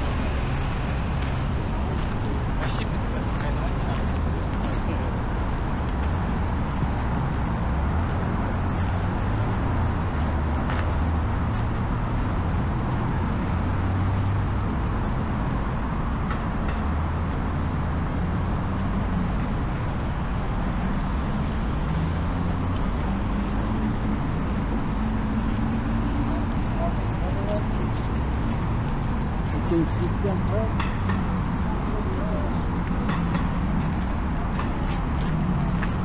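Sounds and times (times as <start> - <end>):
city road traffic: 0.0 - 36.0.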